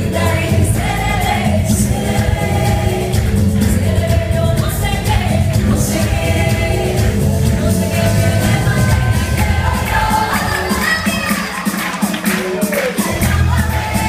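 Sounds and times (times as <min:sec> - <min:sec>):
women singing together: 0:00.0 - 0:11.6, 0:12.9 - 0:14.0
amplified pop band with heavy bass: 0:00.0 - 0:14.0.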